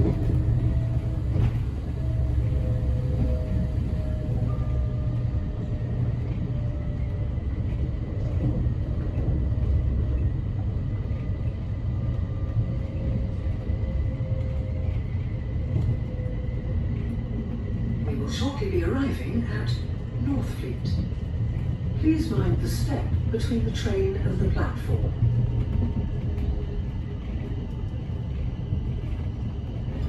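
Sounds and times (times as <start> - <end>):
train low rumble: 0.0 - 30.0.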